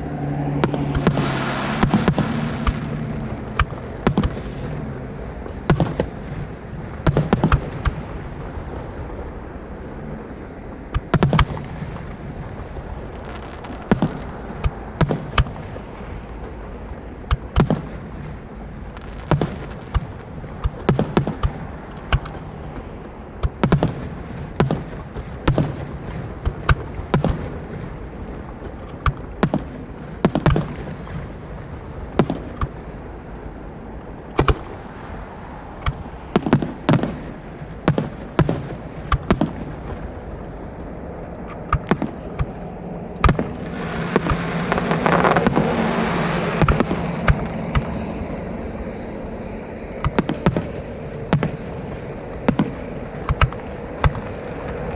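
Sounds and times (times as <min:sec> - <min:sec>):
fireworks booming: 0:00.0 - 0:54.9.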